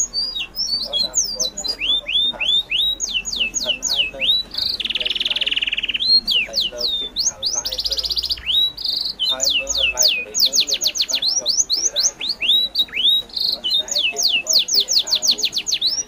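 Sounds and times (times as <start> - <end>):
birds whistling: 0.0 - 16.0
buzzy bird trills: 0.0 - 16.0.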